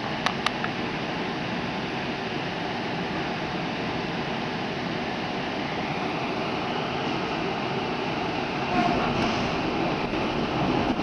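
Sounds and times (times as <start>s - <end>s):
train running noise inside carriage: 0.0s - 11.0s.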